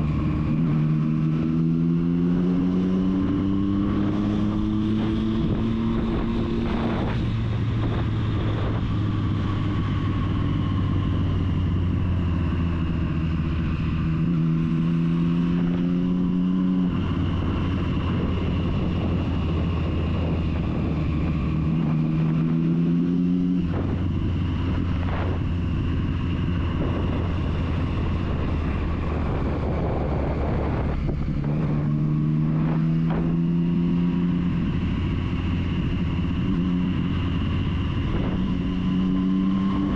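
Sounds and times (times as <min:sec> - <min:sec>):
motorcycle engine running: 0:00.0 - 0:39.9
wind rushing past microphone: 0:00.0 - 0:39.9.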